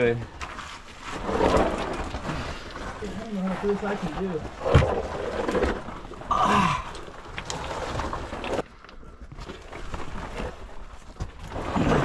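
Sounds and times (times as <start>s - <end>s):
person crawling over rock: 0.4s - 12.0s.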